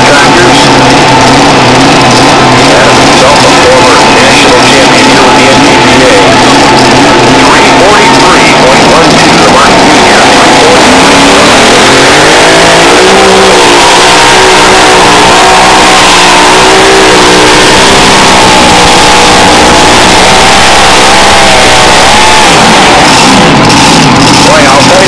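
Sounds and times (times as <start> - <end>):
tractor engine at full throttle: 0.0 - 25.0.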